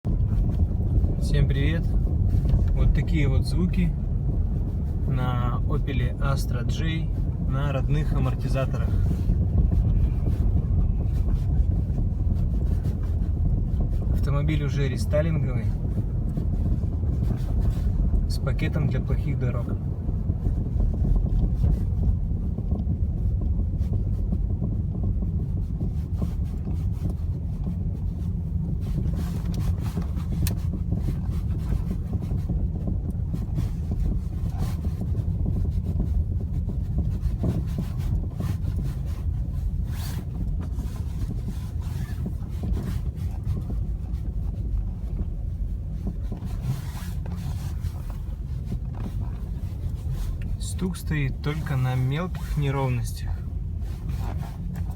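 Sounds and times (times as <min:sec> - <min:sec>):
car driving rumble: 0:00.0 - 0:54.9
suspension knocking over bumps: 0:00.0 - 0:54.9.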